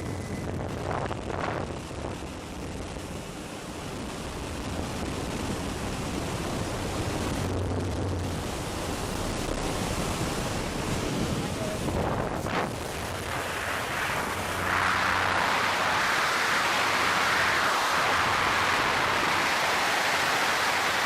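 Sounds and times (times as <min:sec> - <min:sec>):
airplane in flight: 0:00.0 - 0:21.0.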